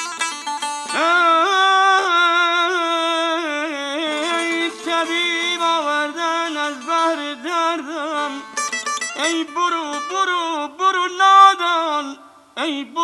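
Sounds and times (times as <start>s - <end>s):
plucked long-necked lute: 0.0s - 10.6s.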